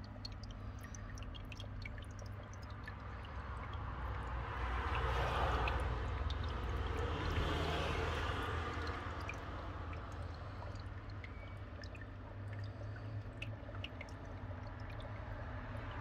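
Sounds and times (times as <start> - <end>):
low steady hum: 0.0 - 16.0
water trickling and dripping: 0.0 - 16.0.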